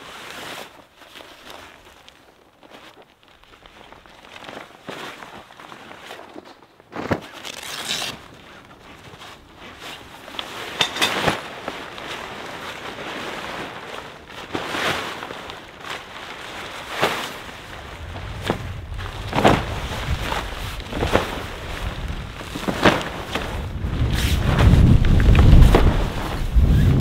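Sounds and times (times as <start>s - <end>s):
tent fabric rustling: 0.0s - 27.0s.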